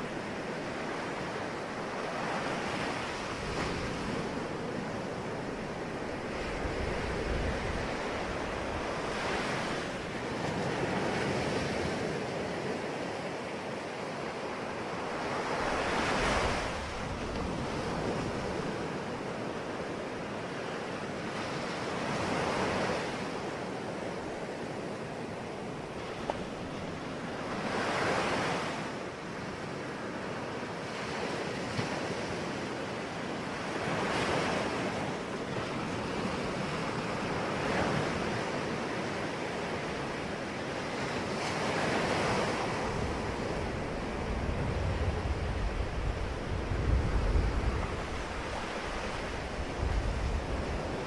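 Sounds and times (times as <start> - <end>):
sea waves breaking on shore: 0.0 - 51.0.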